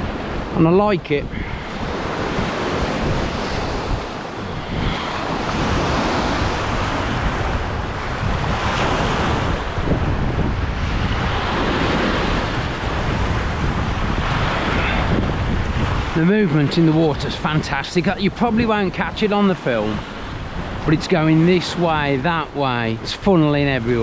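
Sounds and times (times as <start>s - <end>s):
surf washing around rocks: 0.0s - 24.0s
wind buffeting microphone: 0.0s - 24.0s.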